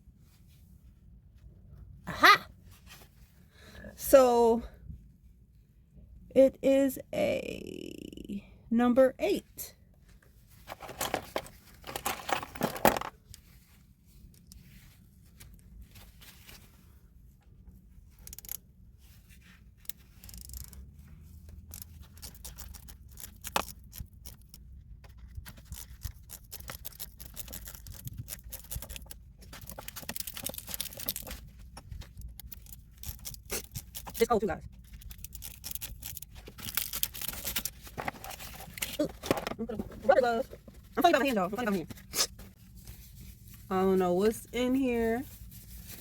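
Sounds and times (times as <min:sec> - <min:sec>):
low steady rumble: 0:00.0 - 0:46.0.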